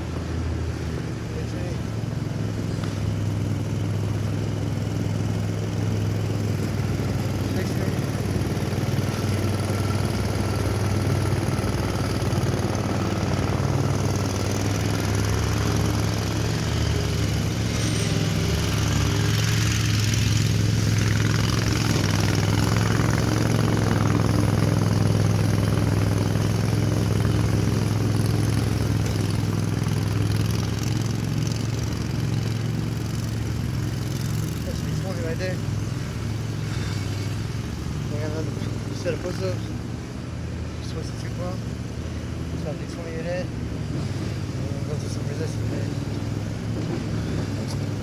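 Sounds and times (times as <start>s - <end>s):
lawn mower engine running: 0.0s - 48.0s.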